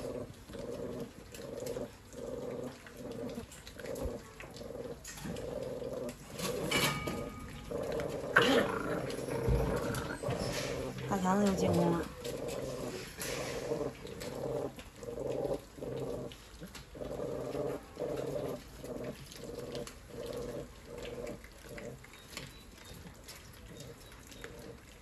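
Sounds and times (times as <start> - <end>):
puppy growling: 0.0 - 25.0.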